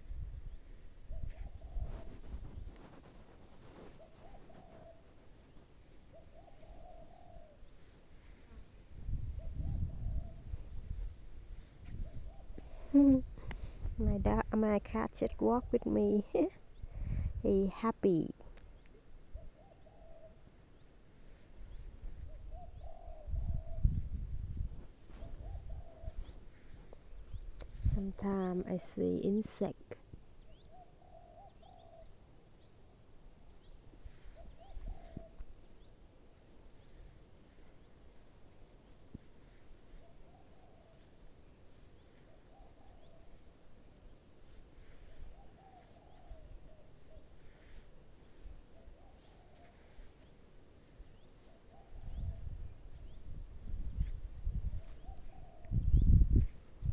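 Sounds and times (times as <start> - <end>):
high insect trill: 0.0 - 56.9.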